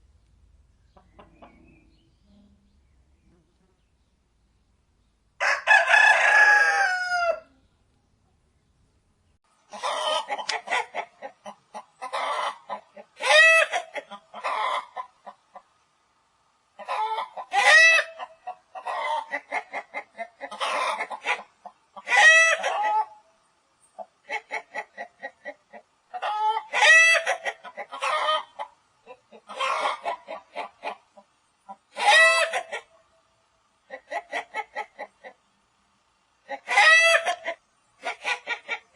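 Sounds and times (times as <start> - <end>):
chickens clucking and squawking: 0.8 - 3.6, 5.4 - 7.7, 9.5 - 38.9.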